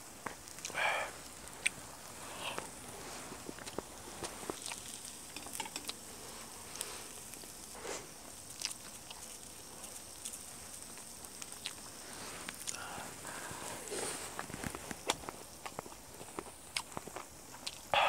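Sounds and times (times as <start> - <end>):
meat sizzling on hot stone: 0.0 - 16.7.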